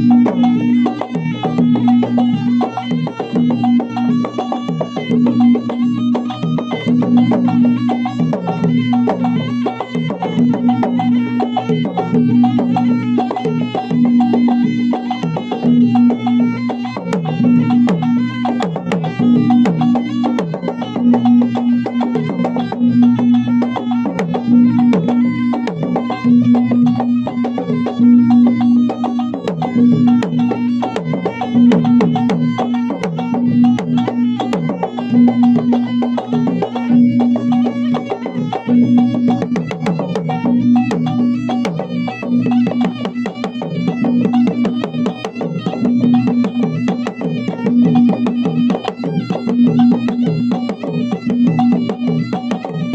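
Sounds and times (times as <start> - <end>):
drums playing fast rhythm: 0.0 - 52.9.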